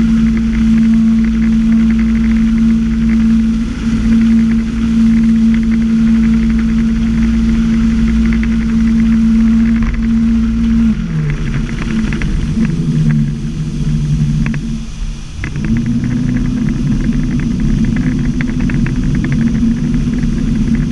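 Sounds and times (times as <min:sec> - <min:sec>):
boat engine running: 0:00.0 - 0:20.9
water rushing: 0:00.0 - 0:20.9.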